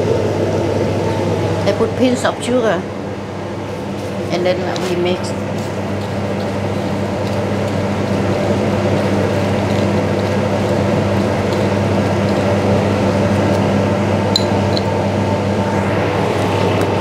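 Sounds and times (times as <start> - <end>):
kitchen extractor fan drone: 0.0 - 17.0.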